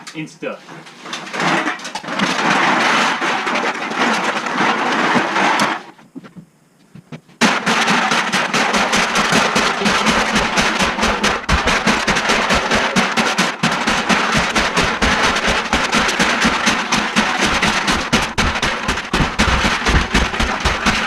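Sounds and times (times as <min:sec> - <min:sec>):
aluminum cans being crushed: 0:01.0 - 0:06.0, 0:07.4 - 0:21.0.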